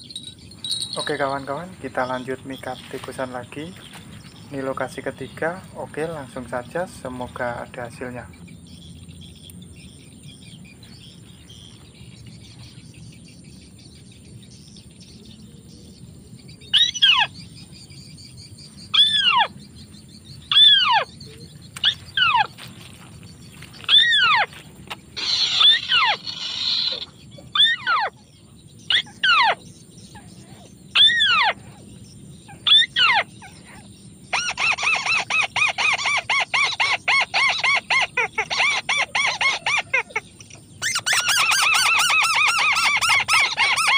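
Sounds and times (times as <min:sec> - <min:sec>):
crake calling: 0:00.0 - 0:43.9.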